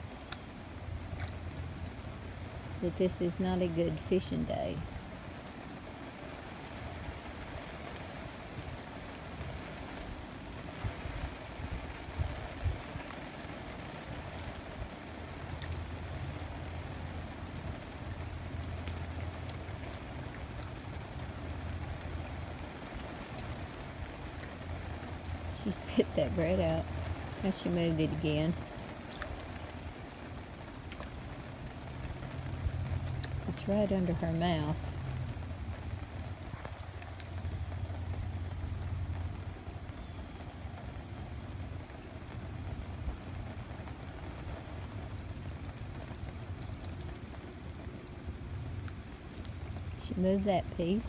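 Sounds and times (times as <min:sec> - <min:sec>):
continuous low rumble: 0:00.0 - 0:51.0
rain falling on water: 0:00.0 - 0:51.0
raindrops ticking close by: 0:00.0 - 0:51.0.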